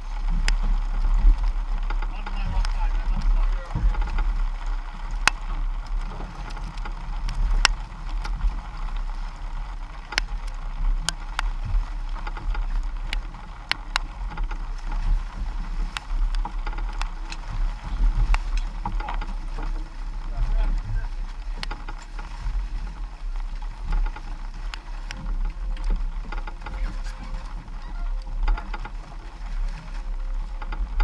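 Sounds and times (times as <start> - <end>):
wind and water around boat: 0.0 - 31.0.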